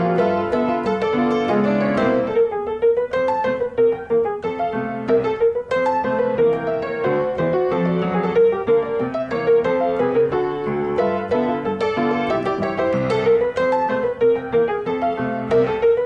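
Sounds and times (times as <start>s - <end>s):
light piano tune: 0.0s - 16.0s.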